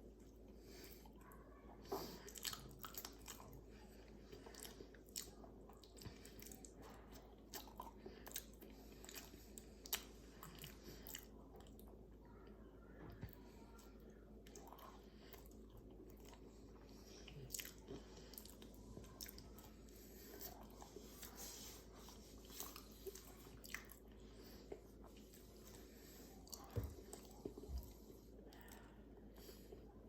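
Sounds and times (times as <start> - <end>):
person chewing banana: 2.2 - 12.0, 14.4 - 28.9.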